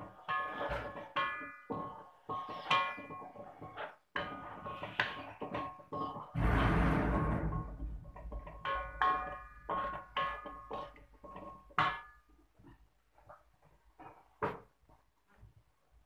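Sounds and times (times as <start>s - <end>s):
wooden spatula scraping metal wok: 0.0s - 14.9s.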